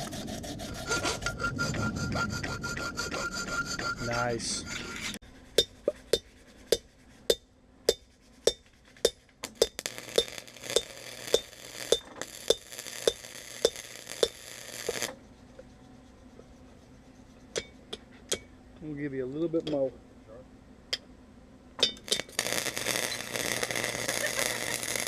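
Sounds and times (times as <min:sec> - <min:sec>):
steady hiss with low hum: 0:04.0 - 0:25.0.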